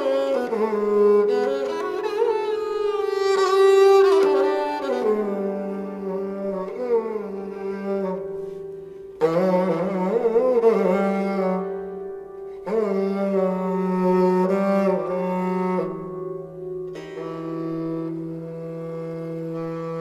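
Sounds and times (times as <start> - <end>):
sarangi bowed melody: 0.0 - 20.0.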